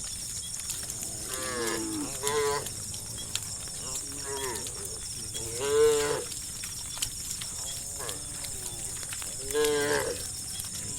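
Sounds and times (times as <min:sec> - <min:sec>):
high insect-like chirring: 0:00.0 - 0:10.9.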